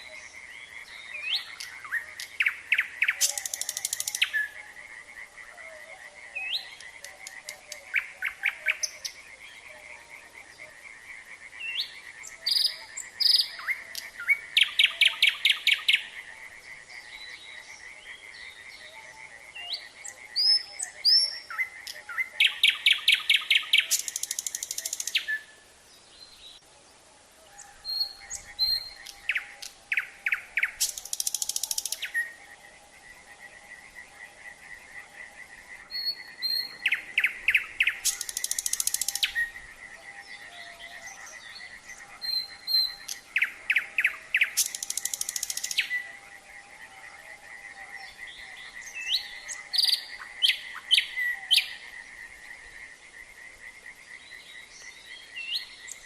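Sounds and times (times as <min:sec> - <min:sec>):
frogs trilling: 0:00.0 - 0:25.7, 0:27.6 - 0:56.0
nightingale singing: 0:00.0 - 0:56.0.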